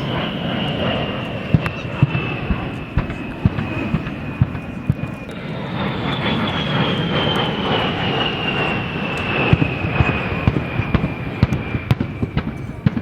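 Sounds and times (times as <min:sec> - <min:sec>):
plane flying past: 0:00.0 - 0:13.0.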